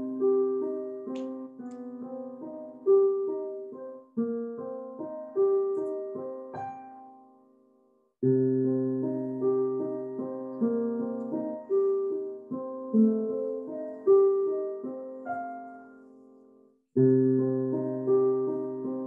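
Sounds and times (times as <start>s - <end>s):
digital piano melody: 0.0s - 19.0s.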